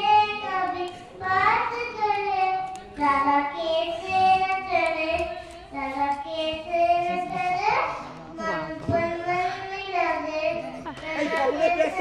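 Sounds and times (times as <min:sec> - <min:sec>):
girl singing into microphone: 0:00.0 - 0:12.0.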